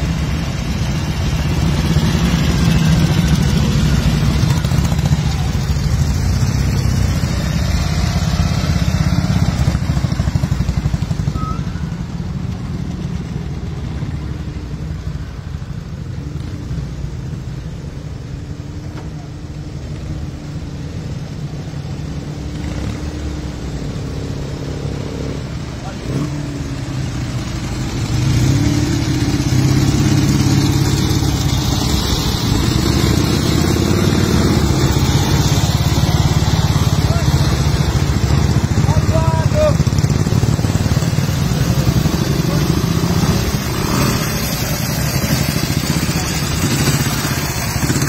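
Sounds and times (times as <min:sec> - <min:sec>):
motorcycles passing: 0:00.0 - 0:48.0.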